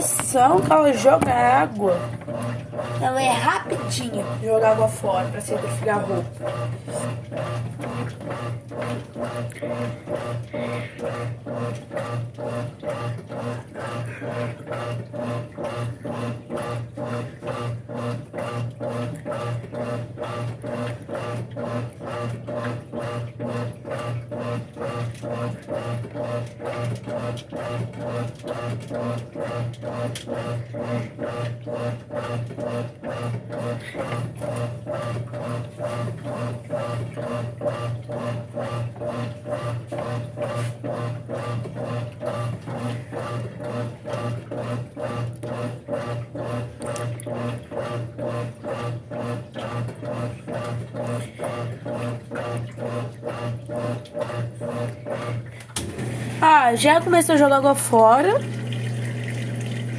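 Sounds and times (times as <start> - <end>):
washing machine churning: 0.0 - 59.9.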